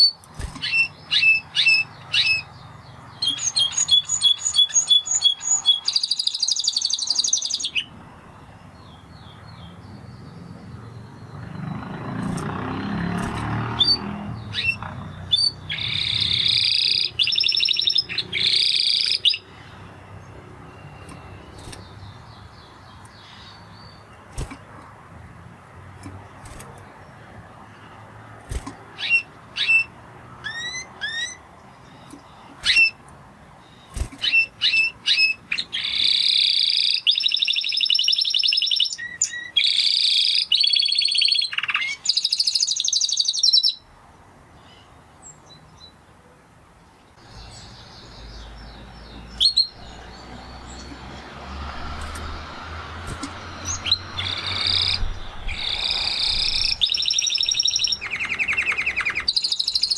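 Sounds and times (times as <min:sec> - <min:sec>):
canary singing: 0:00.0 - 0:43.9, 0:47.2 - 0:59.9.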